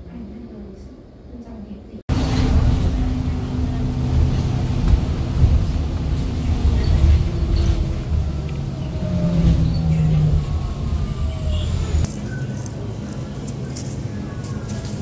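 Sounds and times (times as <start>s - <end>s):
bus motor and road rumble: 2.0s - 15.0s.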